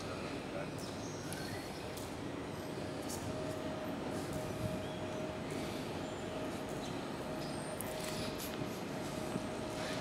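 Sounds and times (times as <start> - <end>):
noisy hum: 0.0 - 10.0.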